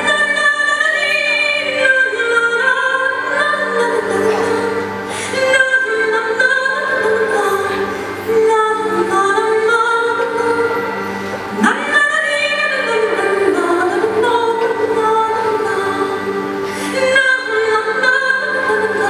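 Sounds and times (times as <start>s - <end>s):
woman singing slow melody: 0.0s - 19.0s.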